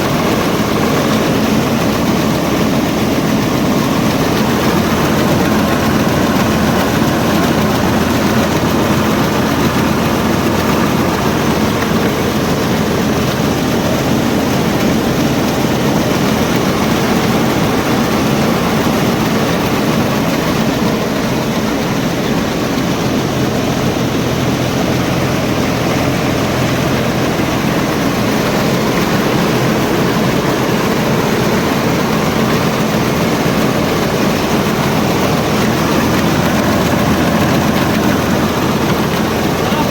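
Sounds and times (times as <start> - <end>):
tractor engine driving thresher: 0.0 - 39.9.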